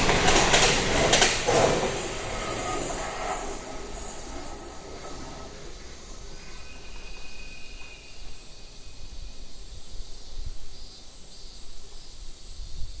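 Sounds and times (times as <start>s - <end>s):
train wheel squeal: 0.0s - 12.1s
insects chirring: 0.0s - 13.0s.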